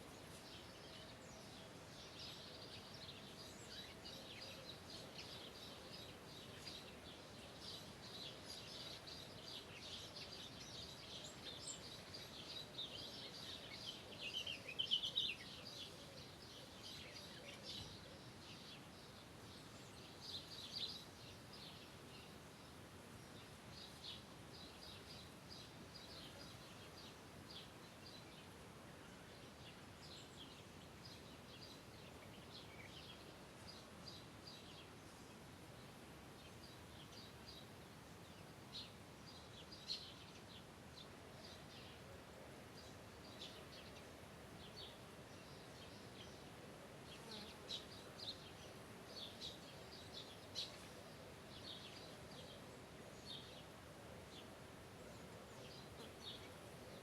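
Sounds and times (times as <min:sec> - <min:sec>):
small birds chirping: 0:00.0 - 0:57.0
soft steady hiss: 0:00.0 - 0:57.0.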